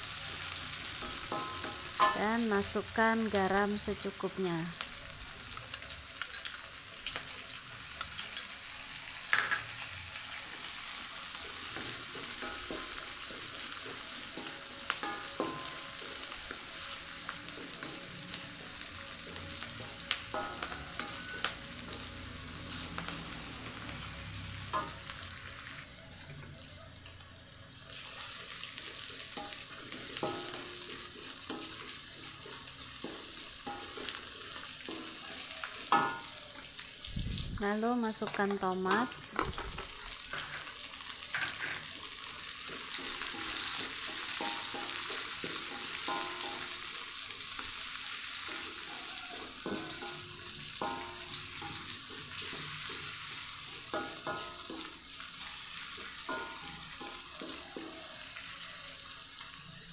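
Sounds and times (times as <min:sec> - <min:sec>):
oil sizzling in a wok: 0:00.0 - 0:59.9.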